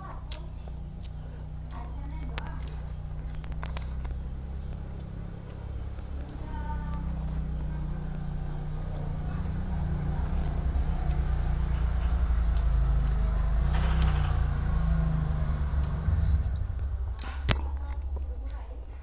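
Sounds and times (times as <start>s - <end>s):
low engine-like rumble: 0.0s - 19.0s.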